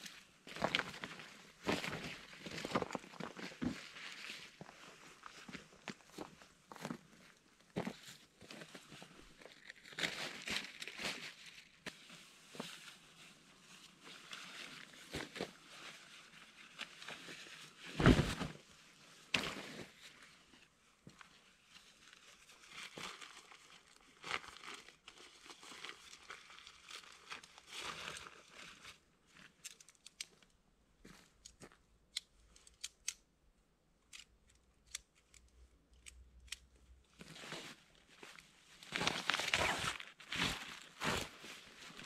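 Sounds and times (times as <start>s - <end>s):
fabric rustling and crinkling: 0.0s - 31.9s, 37.0s - 42.0s.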